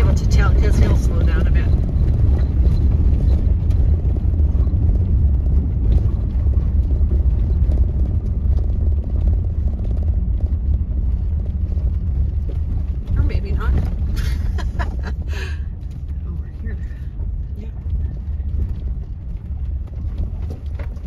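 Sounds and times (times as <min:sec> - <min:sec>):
vehicle rumbling on dirt road: 0:00.0 - 0:21.0.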